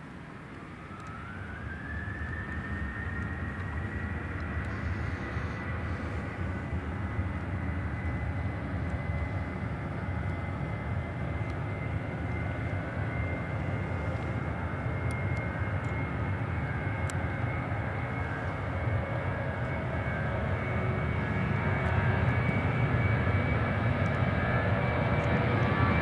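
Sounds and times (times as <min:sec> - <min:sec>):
jet engines rumbling with whine: 0:00.0 - 0:26.0.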